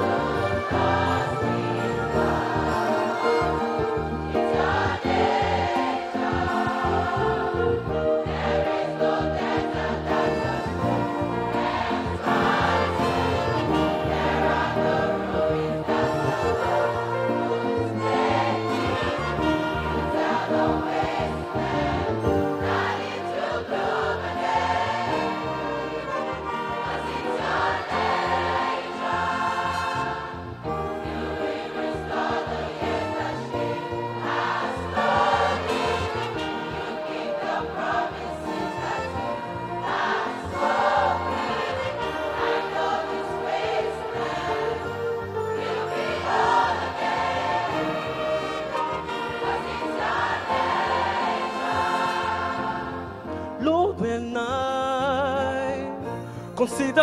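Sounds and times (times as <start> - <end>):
choir singing in harmony: 0.0 - 53.6
violins and brass: 0.0 - 53.6.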